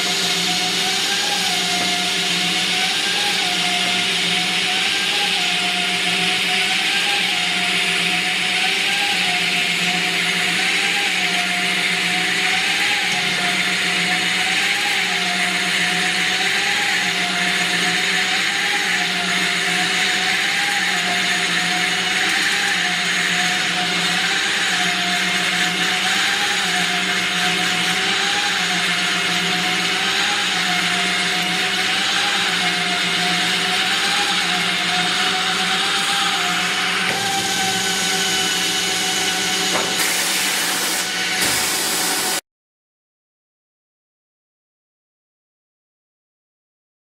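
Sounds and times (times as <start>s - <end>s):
drilling machine whine: 0.0s - 42.4s.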